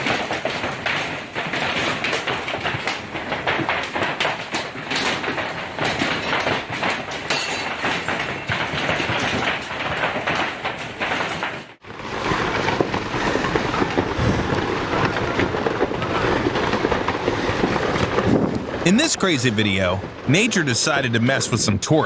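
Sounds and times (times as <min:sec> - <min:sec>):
hailstones pounding: 0:00.0 - 0:22.0.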